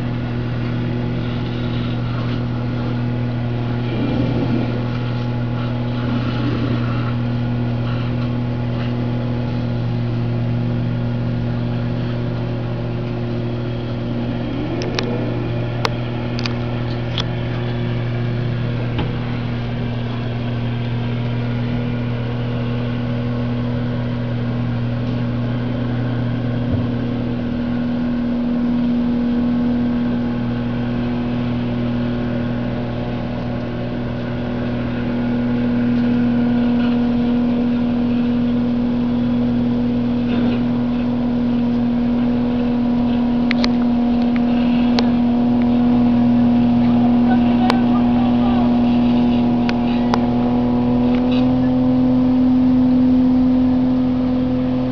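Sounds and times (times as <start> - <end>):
boat engine running: 0.0 - 54.9.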